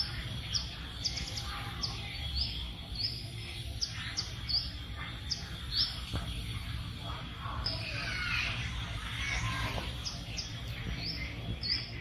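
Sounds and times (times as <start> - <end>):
birds twittering: 0.0 - 12.0
low outdoor rumble: 0.0 - 12.0.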